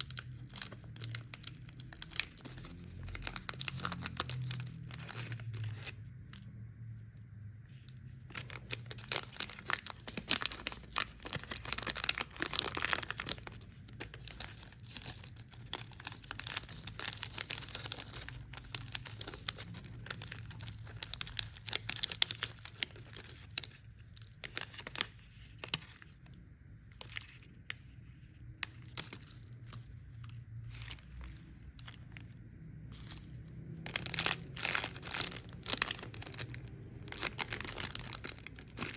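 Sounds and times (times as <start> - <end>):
plastic wrappers crinkling: 0.0 - 6.4, 7.7 - 26.2, 28.6 - 38.9.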